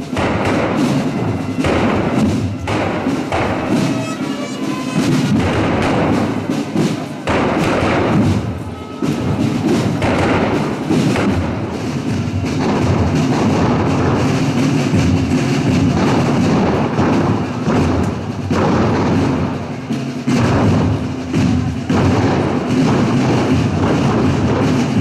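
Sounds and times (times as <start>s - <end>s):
brass playing a march: 0.0s - 25.0s
steady drum beats: 0.0s - 25.0s.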